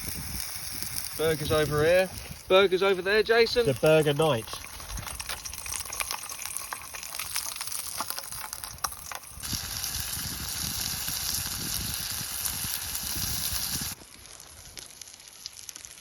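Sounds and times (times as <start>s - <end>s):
burgers sizzling in a pan: 0.0s - 16.0s.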